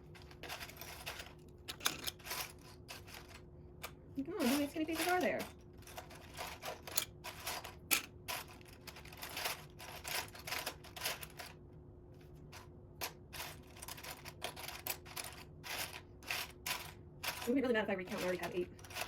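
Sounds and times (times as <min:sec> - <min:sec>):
plastic pieces clicking and clattering: 0:00.2 - 0:11.6, 0:12.6 - 0:19.0.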